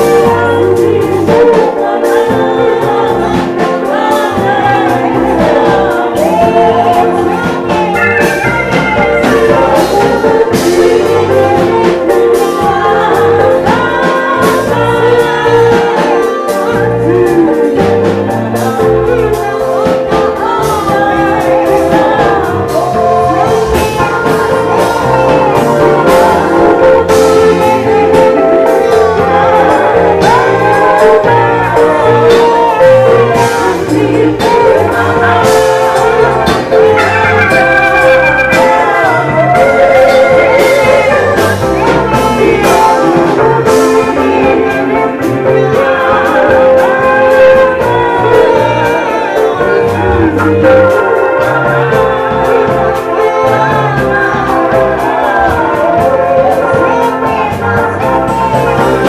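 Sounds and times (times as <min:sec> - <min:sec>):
electronic keyboards: 0:00.0 - 0:59.0
singers on microphones: 0:00.0 - 0:59.0
steady drum beat: 0:00.0 - 0:59.0.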